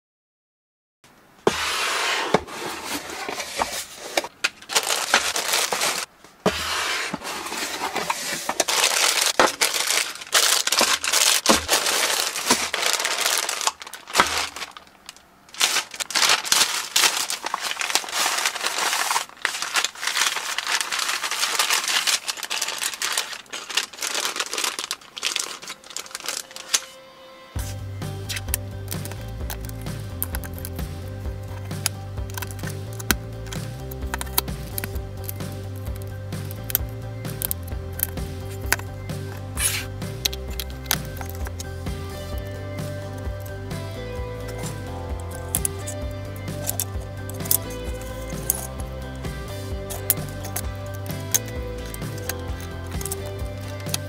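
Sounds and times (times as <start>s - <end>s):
plastic bags crinkling: 2.6s - 6.1s, 7.2s - 27.0s, 27.6s - 54.0s.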